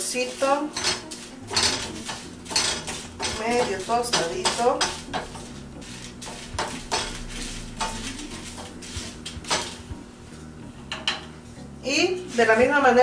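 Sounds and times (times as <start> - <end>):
wooden spatula scraping a pan: 0.0 - 10.6.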